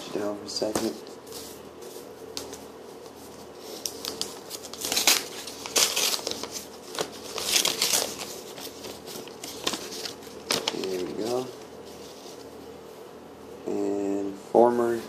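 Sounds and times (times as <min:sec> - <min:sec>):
paper rustling and crinkling: 0:00.5 - 0:12.7.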